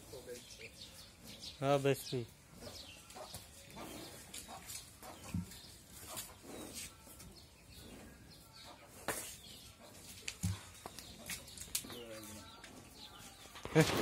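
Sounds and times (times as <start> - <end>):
small birds chirping: 0.0 - 14.0
chickens clucking: 2.5 - 14.0.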